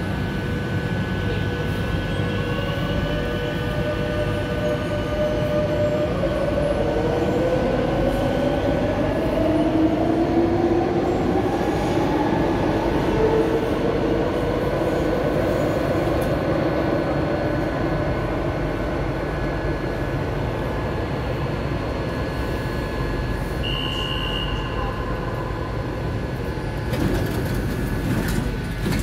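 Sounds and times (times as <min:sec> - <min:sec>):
standing train humming: 0:00.0 - 0:29.0.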